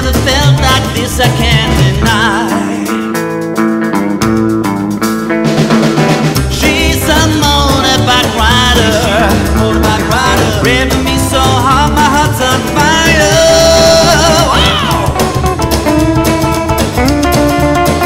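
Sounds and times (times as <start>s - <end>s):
rock and roll band music: 0.0s - 18.0s.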